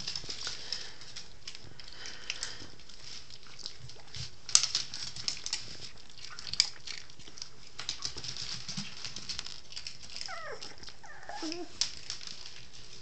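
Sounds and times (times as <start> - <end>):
dog crunching dry food: 0.0 - 13.0.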